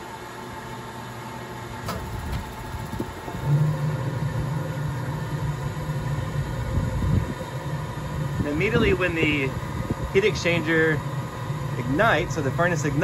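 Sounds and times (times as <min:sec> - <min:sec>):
furnace fan humming: 0:00.0 - 0:13.0
burner low rumble: 0:01.9 - 0:13.0.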